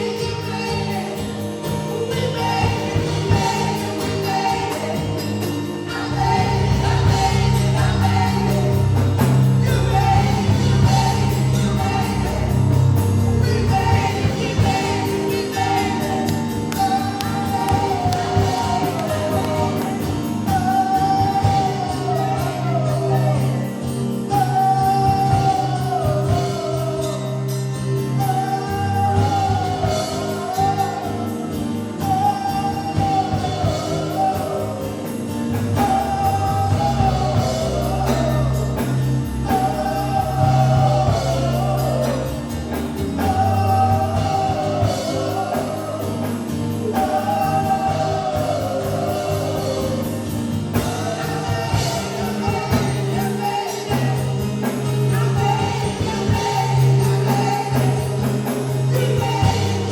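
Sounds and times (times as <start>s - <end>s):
bass and band accompaniment: 0.0s - 59.9s
voices singing gospel: 0.0s - 59.9s.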